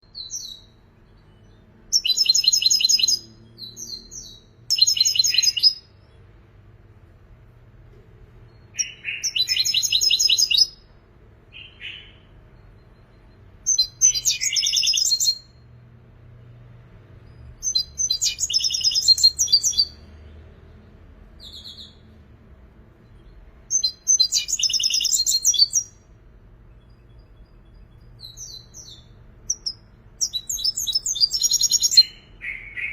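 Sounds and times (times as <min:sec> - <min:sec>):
bird twittering song: 0:00.0 - 0:06.4, 0:08.4 - 0:15.8, 0:17.1 - 0:22.3, 0:22.9 - 0:32.9.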